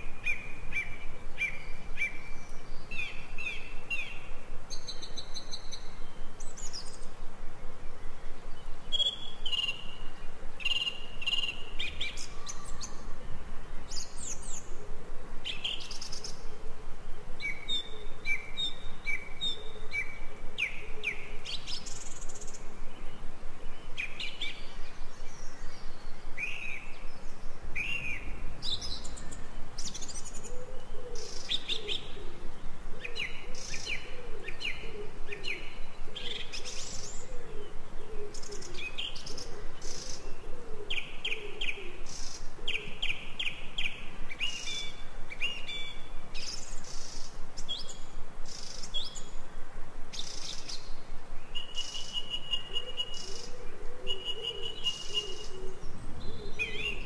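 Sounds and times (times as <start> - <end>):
birds chirping and singing: 0.0 - 14.8, 15.4 - 49.4, 50.2 - 57.0
lower wavering bird call: 0.0 - 49.2, 51.5 - 57.0
faint background hiss: 0.0 - 57.0.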